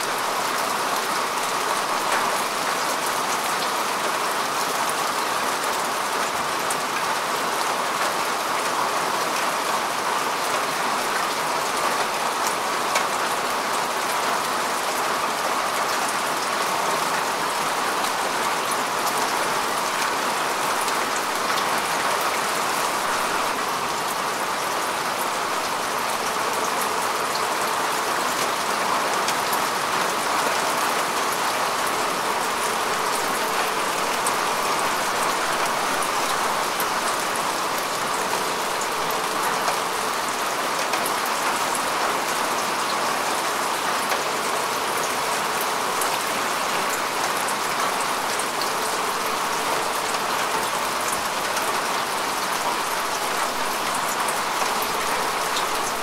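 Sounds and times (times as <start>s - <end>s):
rain falling on grass: 0.0s - 56.0s.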